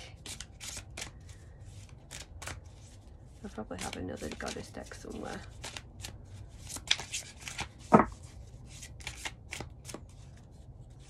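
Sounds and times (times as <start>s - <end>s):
cards being shuffled: 0.2s - 11.0s.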